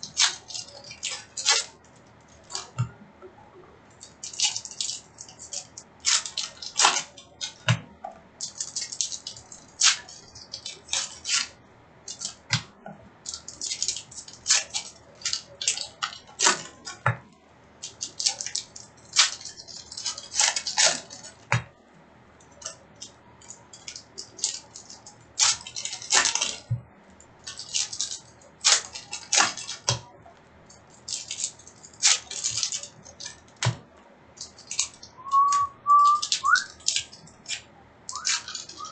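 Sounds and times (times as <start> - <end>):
cards and packaging rustling: 0.0 - 2.8, 3.8 - 7.8, 8.4 - 21.9, 22.5 - 38.9.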